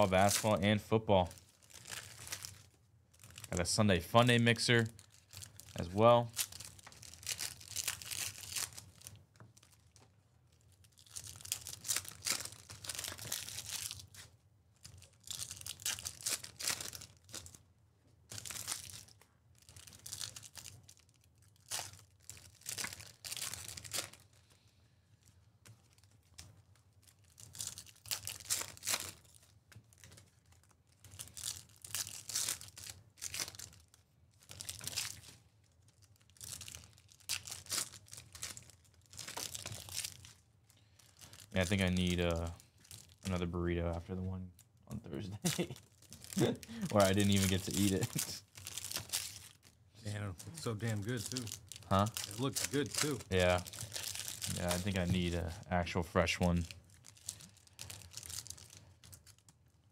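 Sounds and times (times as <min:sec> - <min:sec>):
plastic wrappers tearing and crinkling: 0:00.0 - 0:17.6, 0:18.3 - 0:44.0, 0:45.4 - 0:59.9.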